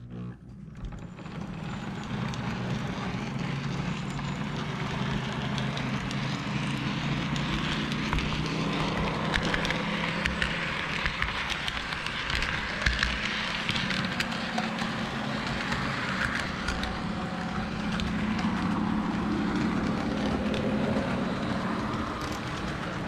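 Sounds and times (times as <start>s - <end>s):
wheels rattling on rail: 0.0s - 23.0s.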